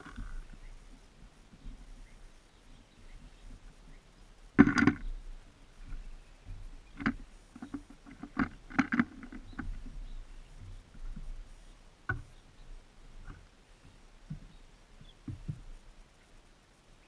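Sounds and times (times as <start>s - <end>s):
birds tapping and pecking: 0.0s - 16.2s.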